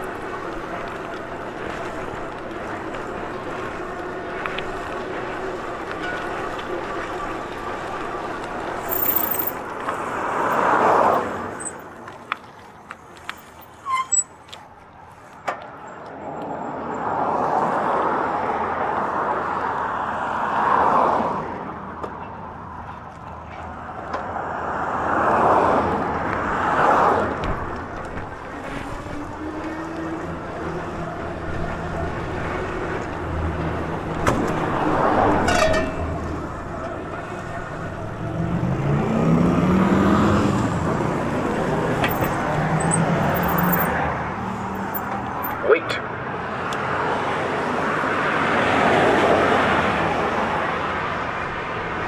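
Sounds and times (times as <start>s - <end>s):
vehicles passing: 0.0s - 52.0s.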